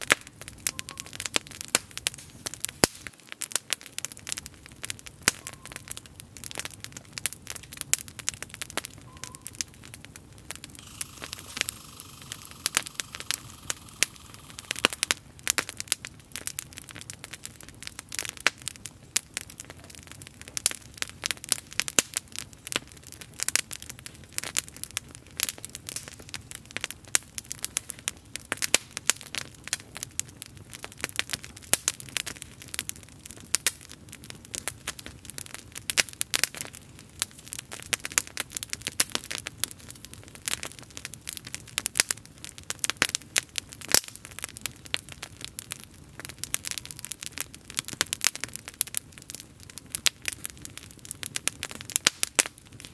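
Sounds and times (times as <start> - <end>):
campfire crackling and snapping: 0.0 - 52.9.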